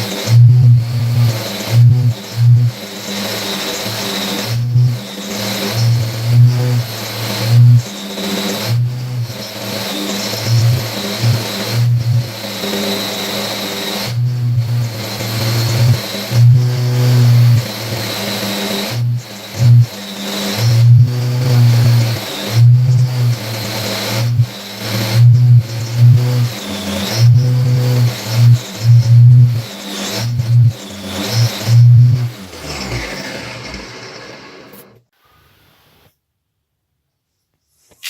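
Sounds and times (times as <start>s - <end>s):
power tool motor whining: 0.0s - 35.1s.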